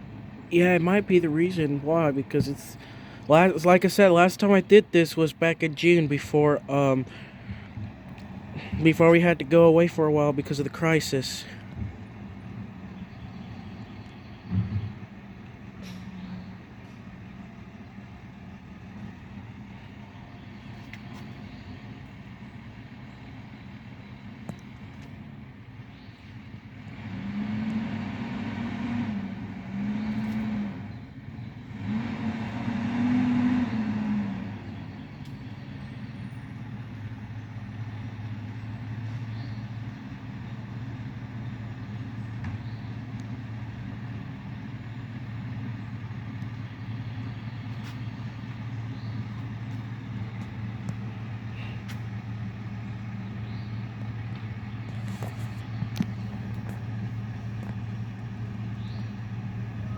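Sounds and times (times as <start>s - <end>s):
vehicle engine revving: 0.1s - 59.9s.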